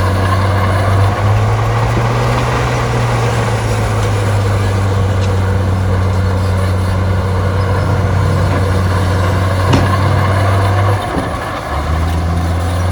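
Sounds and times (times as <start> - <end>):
heavy diesel engine droning: 0.0 - 12.9.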